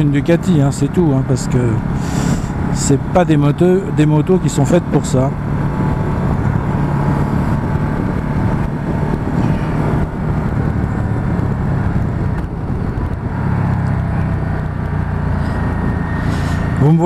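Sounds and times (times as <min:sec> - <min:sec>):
motorcycle engine at speed: 0:00.0 - 0:17.0
wind rush: 0:00.0 - 0:17.0.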